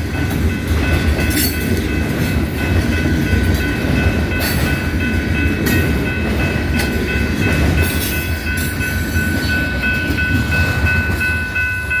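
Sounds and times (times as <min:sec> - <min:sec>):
freight train rumbling past: 0:00.0 - 0:12.0
train wheel clicks and clanks: 0:00.0 - 0:12.0.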